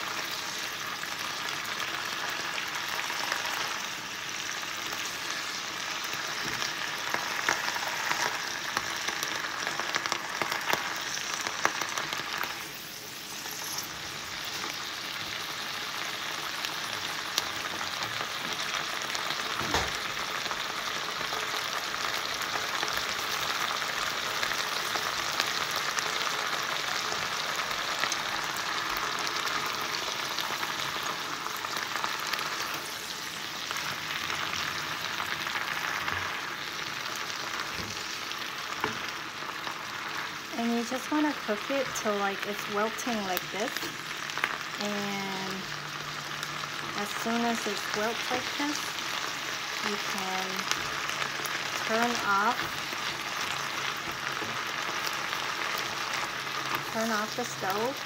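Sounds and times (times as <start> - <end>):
vegetables sizzling in oil: 0.0 - 58.0.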